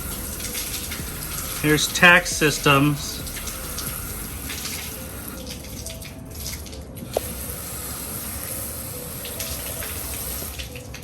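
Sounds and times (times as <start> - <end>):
water spraying onto glass: 0.0 - 11.0.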